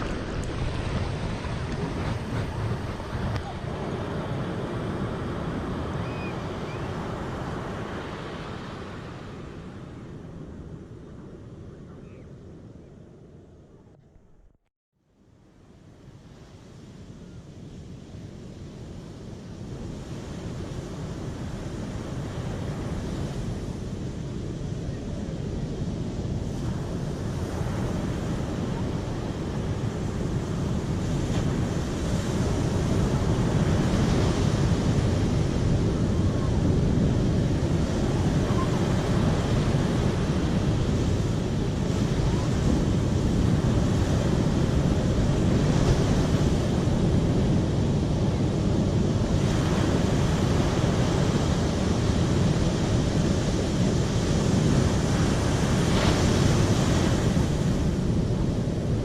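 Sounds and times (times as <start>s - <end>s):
rushing water roar: 0.0s - 9.9s, 20.3s - 59.0s.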